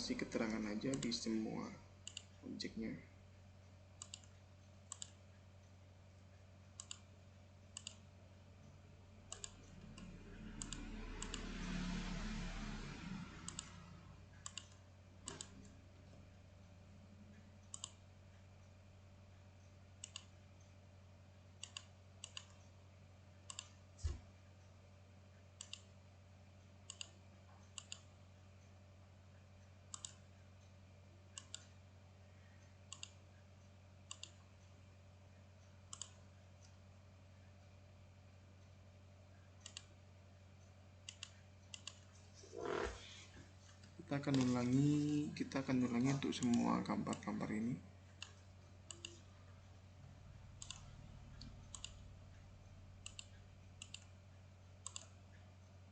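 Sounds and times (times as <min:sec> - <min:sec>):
low electrical hum: 0:00.0 - 0:55.9.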